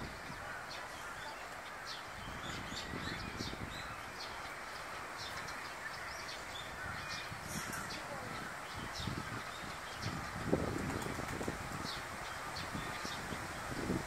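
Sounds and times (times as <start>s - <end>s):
sparrows chirping: 0.0s - 14.0s
steady background noise: 0.0s - 14.0s.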